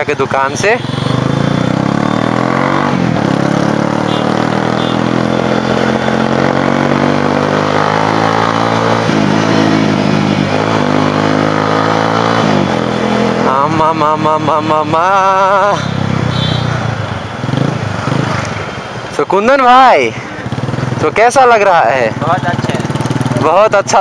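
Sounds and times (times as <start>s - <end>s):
motorcycle engine running: 0.2s - 18.4s, 20.2s - 24.0s.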